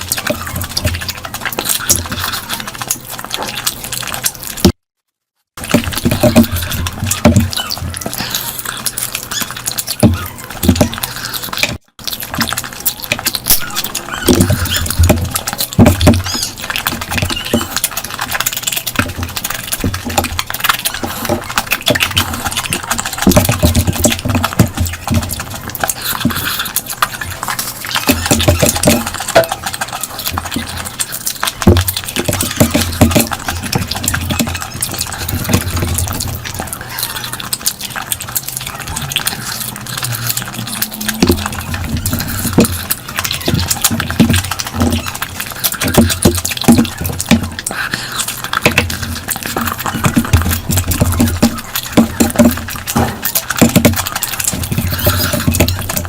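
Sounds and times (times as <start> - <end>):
chewing and mouth smacking: 0.0 - 4.8, 5.6 - 56.0.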